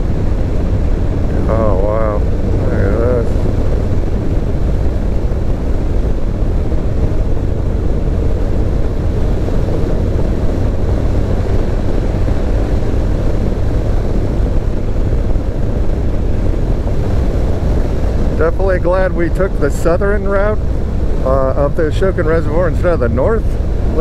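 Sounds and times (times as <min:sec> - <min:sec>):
car engine inside cabin: 0:00.0 - 0:24.0.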